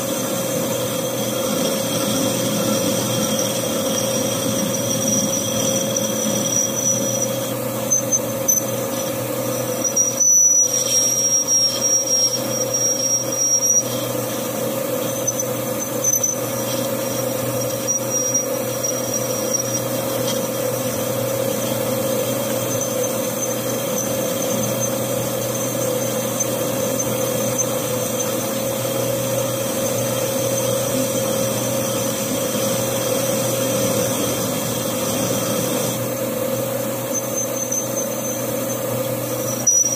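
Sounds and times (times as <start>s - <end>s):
metal lathe cutting steel: 0.0s - 39.9s
thin high whine: 0.0s - 39.9s.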